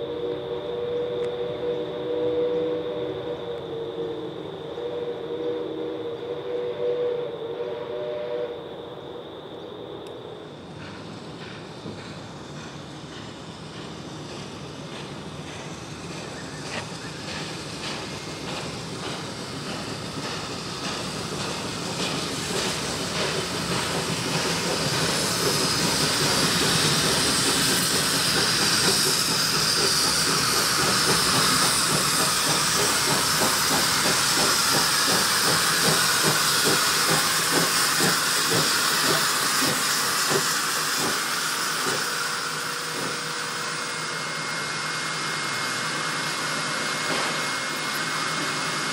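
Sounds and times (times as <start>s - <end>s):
steam locomotive passing: 0.0s - 48.9s
steam hissing: 9.6s - 48.9s.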